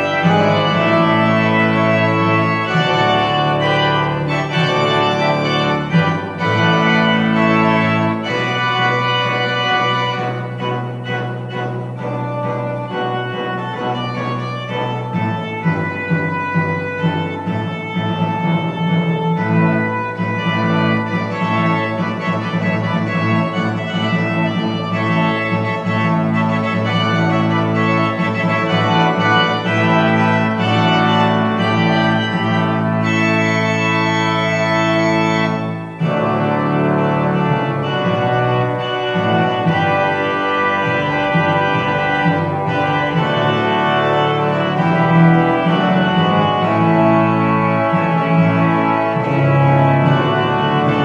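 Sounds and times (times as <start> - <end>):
organ playing slow chords: 0.0 - 51.0.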